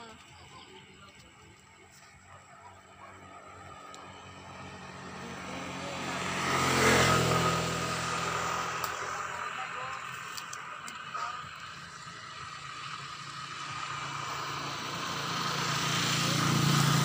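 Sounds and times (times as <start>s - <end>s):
vehicle passing by: 1.8s - 17.0s.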